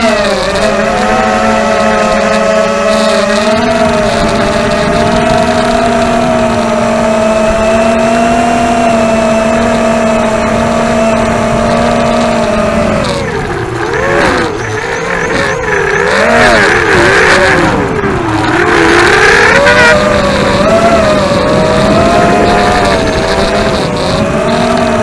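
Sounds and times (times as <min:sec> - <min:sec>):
quadcopter motors whining: 0:00.0 - 0:25.0.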